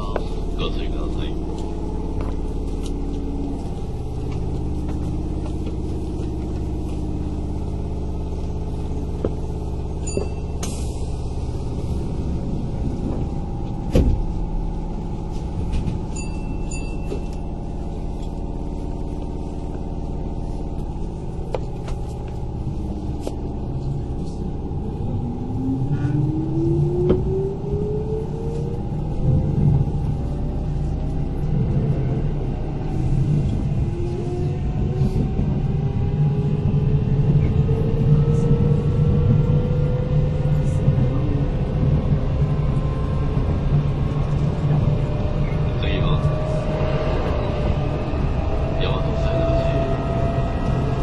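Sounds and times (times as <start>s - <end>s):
train car hum and rumble: 0.0s - 51.0s.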